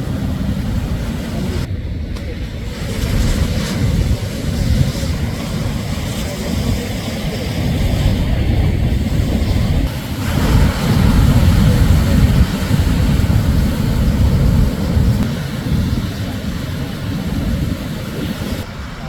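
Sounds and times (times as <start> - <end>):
wave breaking on shore: 0.0 - 19.0.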